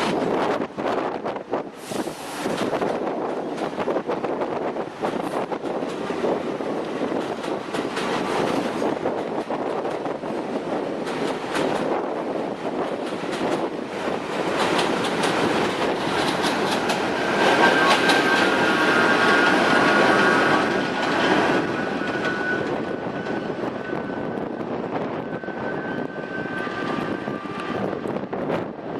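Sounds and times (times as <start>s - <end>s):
subway wheels clicking over rail joints: 0.0s - 28.9s.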